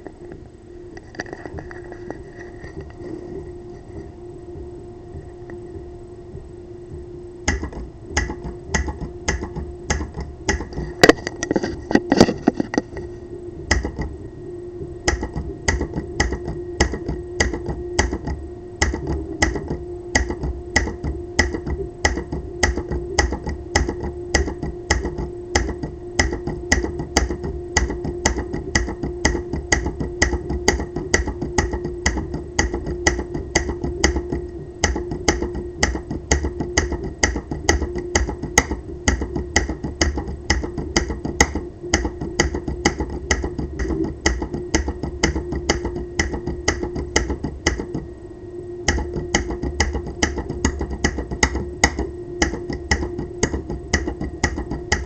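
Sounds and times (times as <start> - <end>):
steady low hum: 0.0 - 55.0
solenoid clicking: 7.4 - 12.8, 13.7 - 14.2, 15.1 - 48.1, 48.8 - 55.0.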